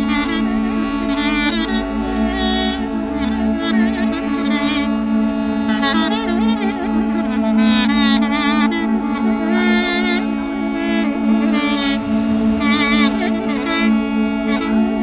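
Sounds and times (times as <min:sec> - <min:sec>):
duduk ensemble playing: 0:00.0 - 0:15.0.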